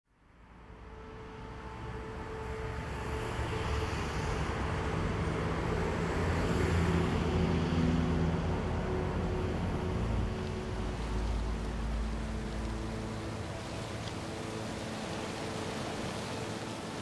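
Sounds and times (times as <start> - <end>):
city traffic rumble: 0.4 - 17.0.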